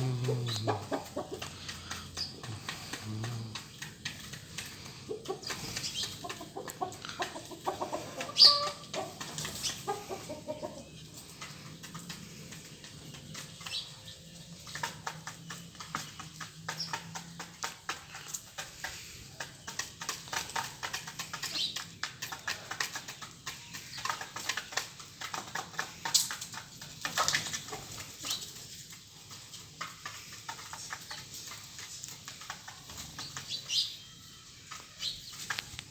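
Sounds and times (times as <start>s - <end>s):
chicken calls: 0.0s - 35.9s
chickens scratching and tapping: 0.0s - 35.9s.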